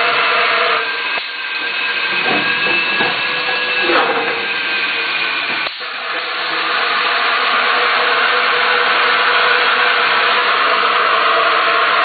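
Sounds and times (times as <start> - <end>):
machine motor running: 0.0 - 12.0.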